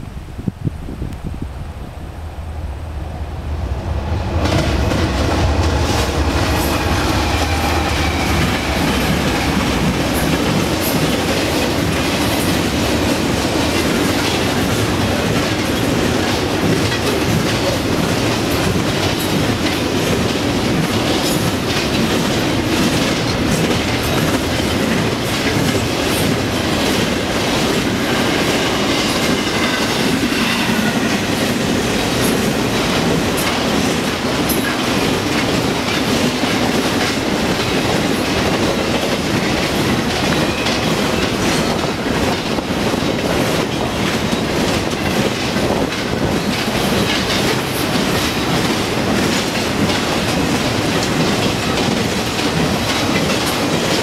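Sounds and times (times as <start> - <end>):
freight train passing: 0.0 - 54.0
wheels clicking over rail joints: 4.4 - 30.1, 31.9 - 54.0.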